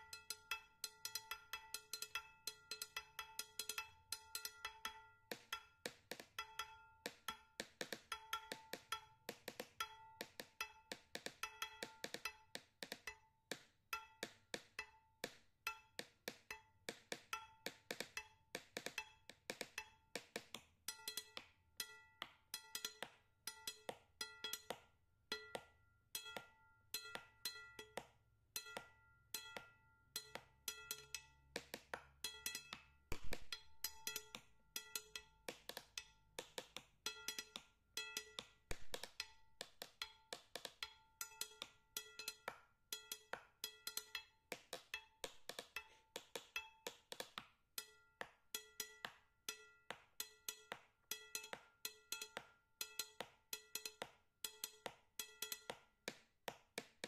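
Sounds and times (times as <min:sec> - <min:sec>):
woody struck notes music: 0:00.0 - 0:55.8.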